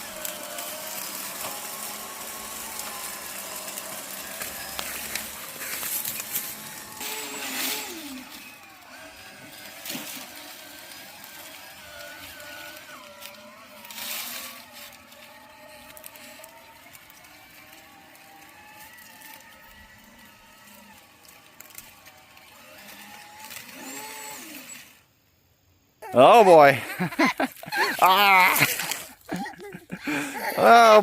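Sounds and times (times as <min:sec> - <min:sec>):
small motor running: 0:00.0 - 0:25.2, 0:26.1 - 0:31.0.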